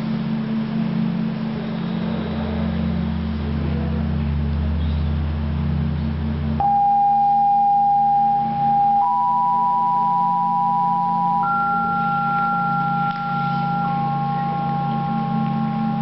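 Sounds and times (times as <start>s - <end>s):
low electronic hum: 0.0s - 16.0s
sustained pure tones: 0.0s - 16.0s.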